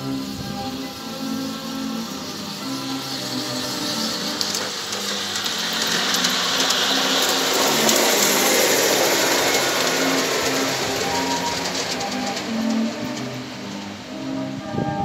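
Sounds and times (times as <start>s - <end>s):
model train passing: 0.0s - 15.0s.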